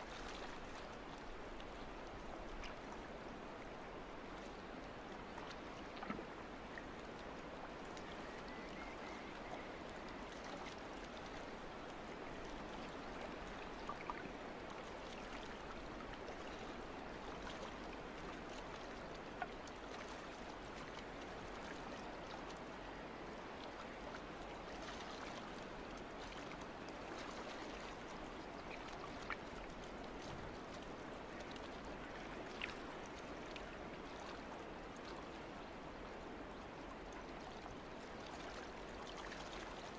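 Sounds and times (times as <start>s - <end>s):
water trickling and lapping: 0.0s - 39.9s.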